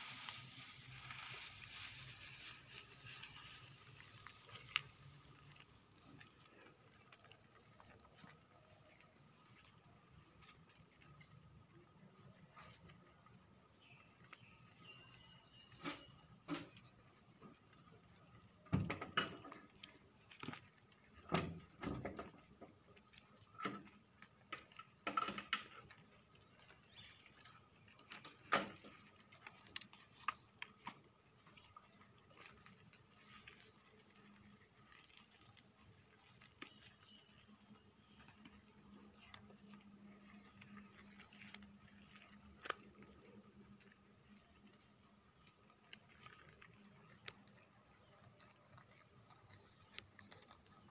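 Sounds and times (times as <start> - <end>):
leaves rustling: 0.0 - 50.9.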